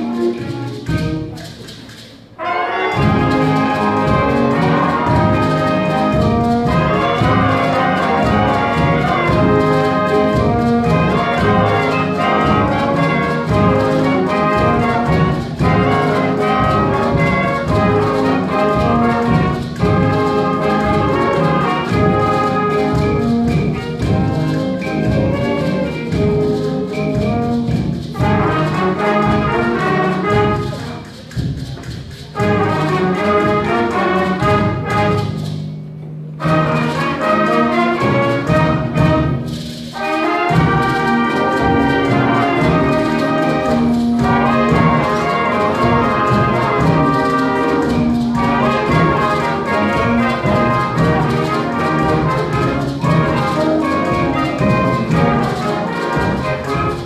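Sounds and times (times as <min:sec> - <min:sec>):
concert band playing a tango: 0:00.0 - 0:57.0.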